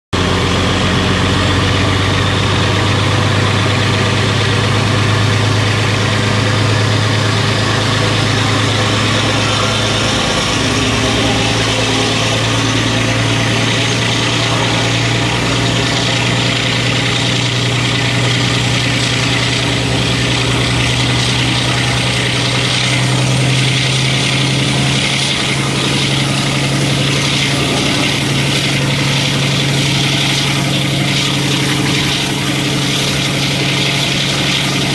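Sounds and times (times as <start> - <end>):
diesel locomotive engines humming: 0.2 - 34.9
high whine rising in pitch: 0.2 - 34.9.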